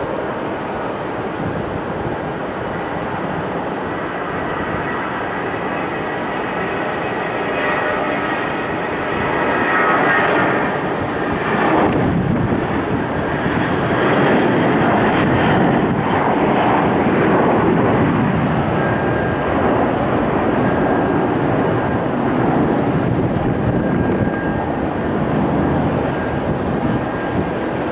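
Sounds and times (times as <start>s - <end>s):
high-pitched turbine whine: 0.0s - 27.9s
jet engines at takeoff: 0.0s - 27.9s.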